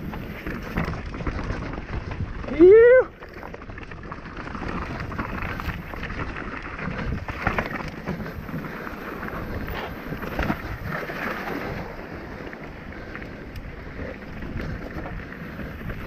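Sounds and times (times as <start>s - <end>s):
bike rattling: 0.0s - 16.0s
tyres crunching over stones: 0.0s - 16.0s
wind noise on microphone: 0.0s - 16.0s.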